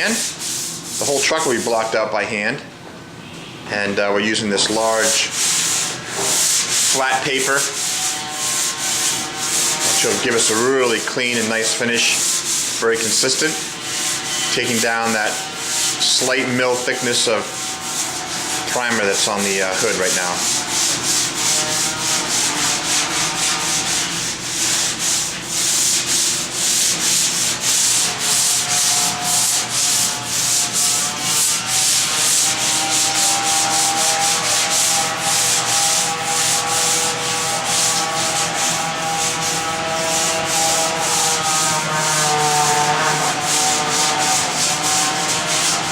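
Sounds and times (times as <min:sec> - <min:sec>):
sandpaper rubbing on metal panel: 0:00.0 - 0:02.0, 0:04.6 - 0:45.9.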